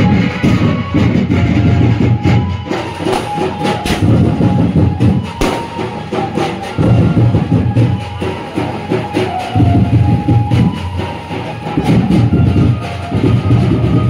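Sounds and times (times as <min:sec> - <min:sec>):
loud music with pulsing drums: 0:00.0 - 0:14.0.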